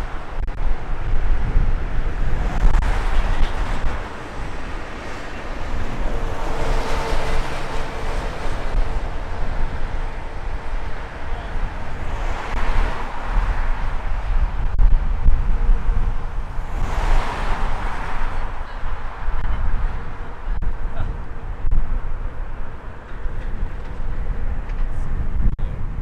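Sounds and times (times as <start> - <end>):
jet engines roaring: 0.0 - 24.7
wind buffeting microphone: 0.0 - 26.0.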